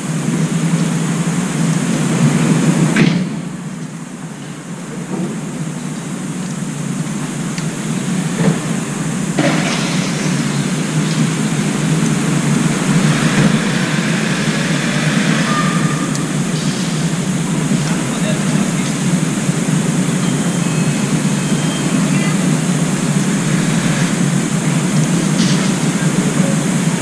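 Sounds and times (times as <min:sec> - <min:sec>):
low rumble of traffic: 0:00.0 - 0:27.0.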